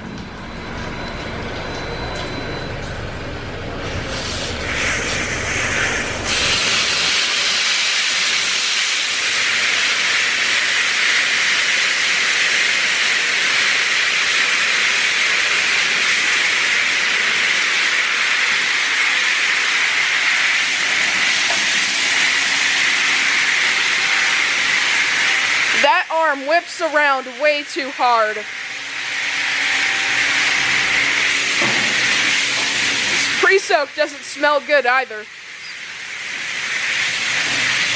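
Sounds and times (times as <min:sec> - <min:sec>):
high-pressure water jets spraying: 0:03.8 - 0:37.9.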